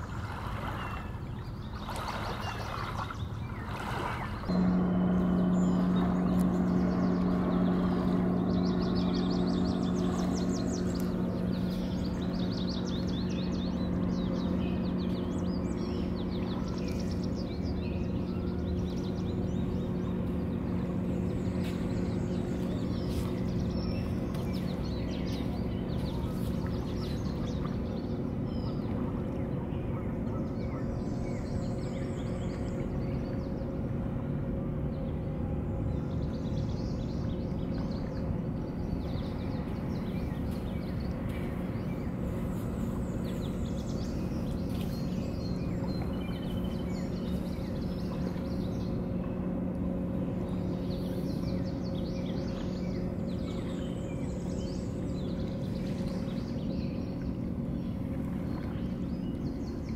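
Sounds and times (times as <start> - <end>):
low engine hum: 0.0 - 59.9
small birds chirping: 1.0 - 28.9, 36.5 - 59.9.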